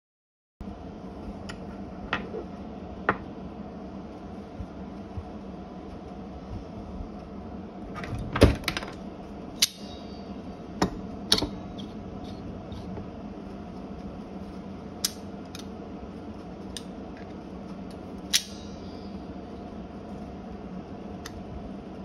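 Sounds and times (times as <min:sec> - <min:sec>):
steady machine hum: 0:00.6 - 0:22.0.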